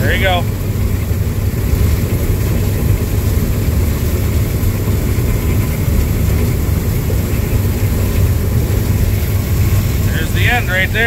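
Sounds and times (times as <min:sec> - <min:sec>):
combine engine and machinery drone: 0:00.0 - 0:11.0.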